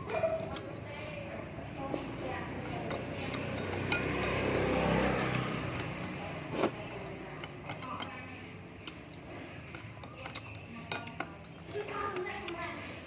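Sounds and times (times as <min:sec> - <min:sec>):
utensils clicking against a bowl: 0:00.0 - 0:00.9, 0:02.5 - 0:13.0.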